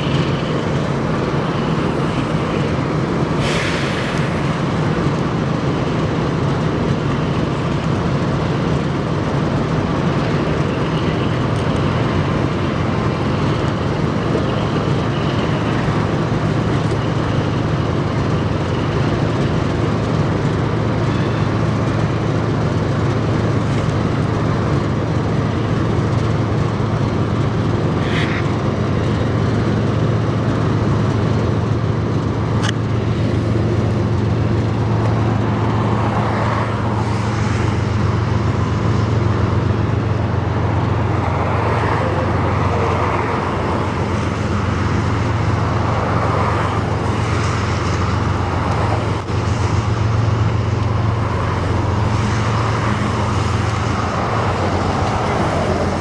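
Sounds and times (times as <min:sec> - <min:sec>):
low engine drone: 0:00.0 - 0:56.0
traffic noise: 0:00.0 - 0:56.0.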